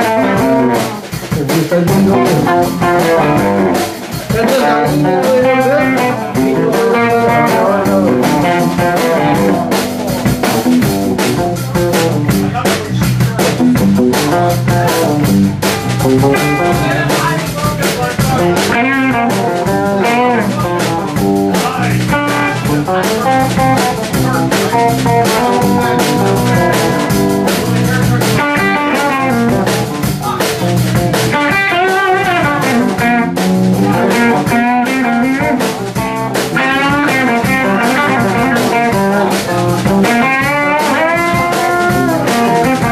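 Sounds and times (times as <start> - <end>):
blues-rock band playing: 0.0 - 42.9
lead guitar bent notes: 0.0 - 42.9.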